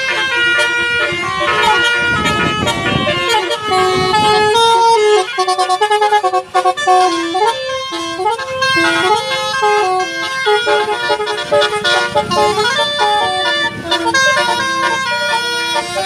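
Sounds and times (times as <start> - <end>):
musical horn playing a rapid tune: 0.0 - 16.0.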